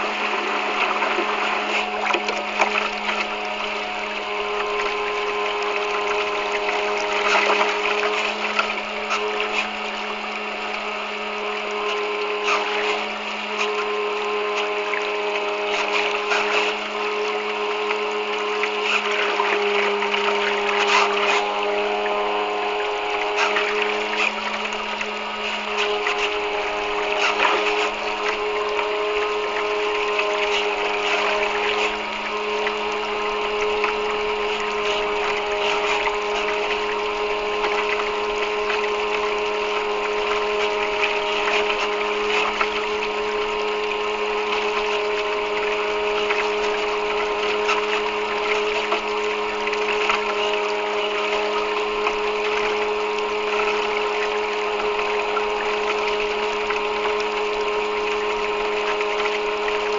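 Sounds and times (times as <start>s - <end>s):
electric propeller motor whine: 0.0s - 59.9s
water splashing against hull: 0.0s - 59.9s.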